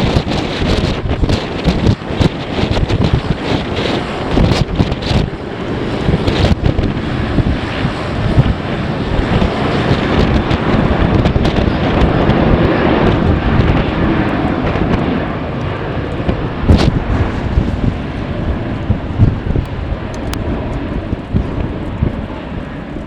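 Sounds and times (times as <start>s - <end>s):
gusty wind buffeting microphone: 0.0s - 23.0s.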